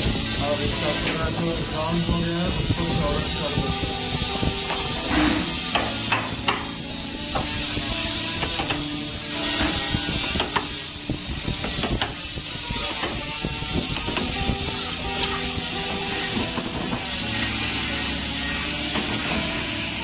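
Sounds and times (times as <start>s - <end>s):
wood router cutting wood: 0.0s - 20.0s.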